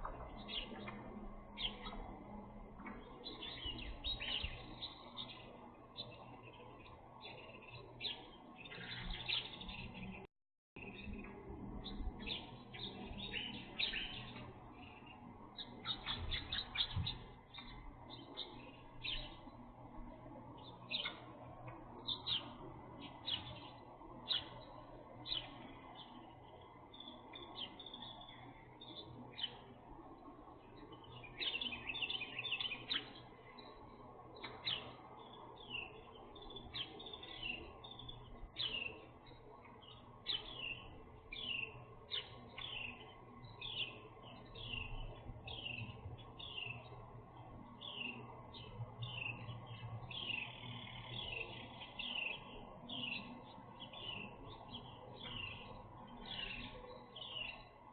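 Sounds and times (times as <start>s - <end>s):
faint low hum: 0.0s - 57.9s
small birds chirping: 0.0s - 57.9s.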